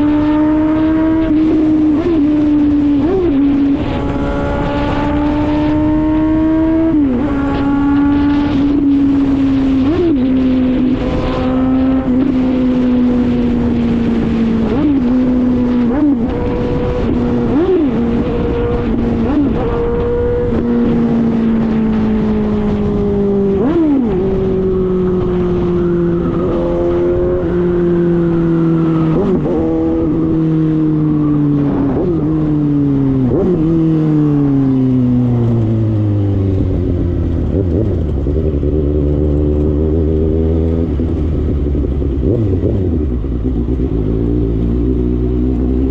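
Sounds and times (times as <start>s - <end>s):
motorcycle engine running loud: 0.0s - 45.9s.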